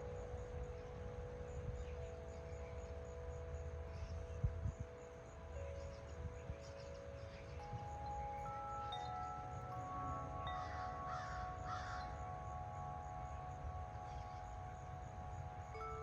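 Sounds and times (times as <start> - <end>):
tube wind chimes ringing: 0.0 - 16.0
wind rumble on microphone: 0.0 - 16.0.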